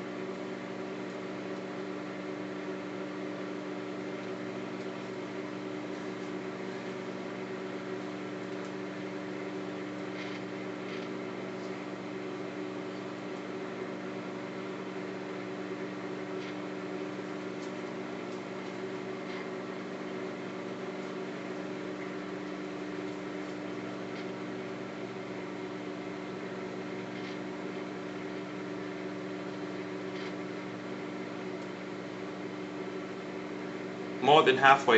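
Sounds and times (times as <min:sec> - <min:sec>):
microwave oven humming: 0:00.0 - 0:34.9.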